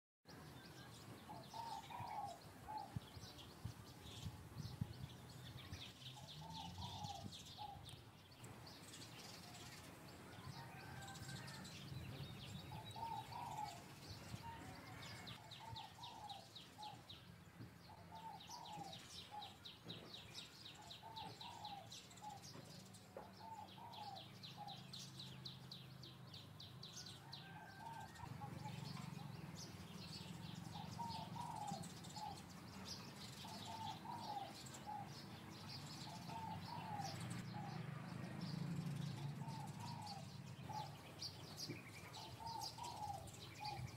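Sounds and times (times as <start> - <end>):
birds calling: 0.4 - 43.9.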